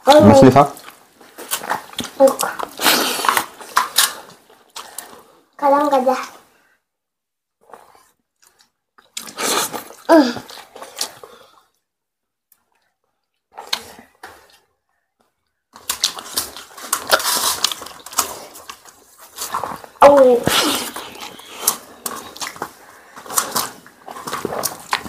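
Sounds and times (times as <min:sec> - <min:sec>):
people chewing: 0:00.0 - 0:05.5, 0:07.6 - 0:11.8, 0:12.5 - 0:25.0.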